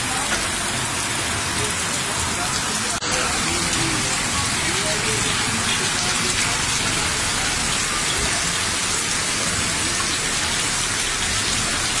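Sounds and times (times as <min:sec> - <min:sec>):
heavy rain on paved road: 0:00.0 - 0:12.0.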